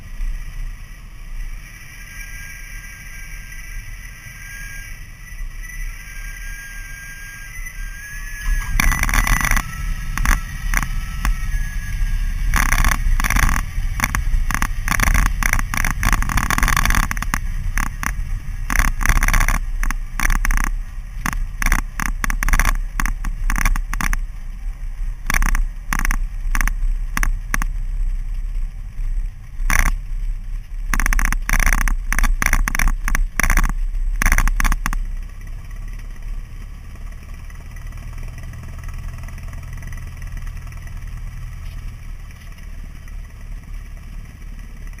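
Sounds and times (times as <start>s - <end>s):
light airplane engine running: 0.0s - 45.0s.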